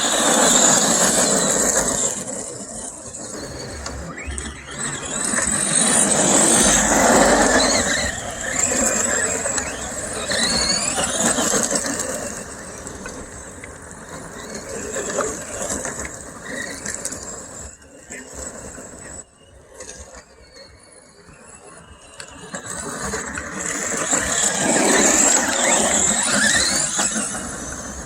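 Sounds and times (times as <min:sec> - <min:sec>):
toy truck electric motor whine: 0:00.0 - 0:28.0.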